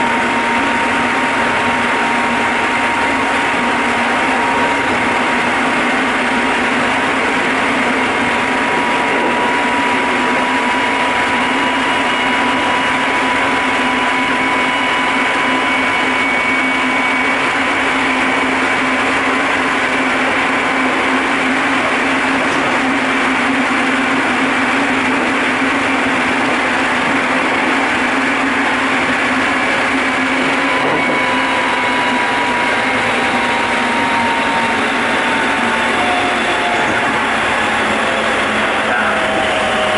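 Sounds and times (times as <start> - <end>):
train motor whine: 0.0 - 39.9
train wheels rumbling on rail: 0.0 - 39.9.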